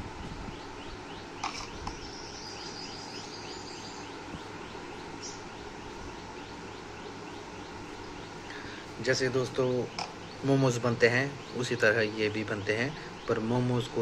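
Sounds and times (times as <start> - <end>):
bird chirping: 0.0 - 14.0
steady background noise: 0.0 - 14.0.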